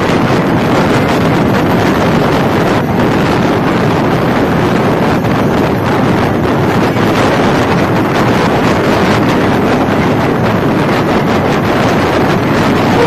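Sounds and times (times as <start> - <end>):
train running noise: 0.0 - 13.0
wind buffeting microphone: 0.0 - 13.0.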